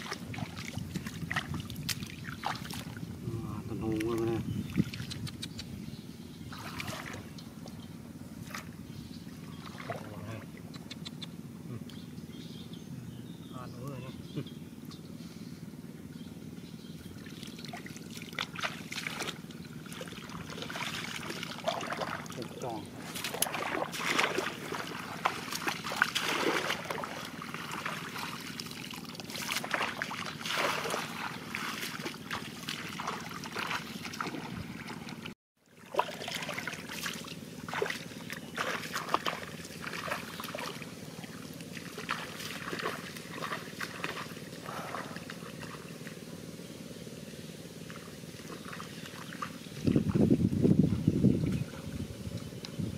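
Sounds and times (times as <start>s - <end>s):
muddy water splashing: 0.0s - 5.7s, 6.4s - 7.8s, 8.4s - 11.2s, 17.0s - 46.6s, 47.4s - 52.9s.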